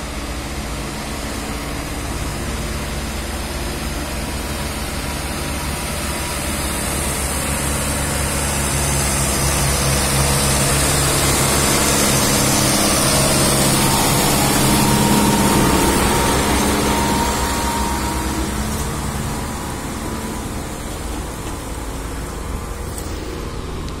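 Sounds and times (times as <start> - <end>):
tractor diesel engine: 0.0 - 24.0
thin whine: 1.4 - 24.0.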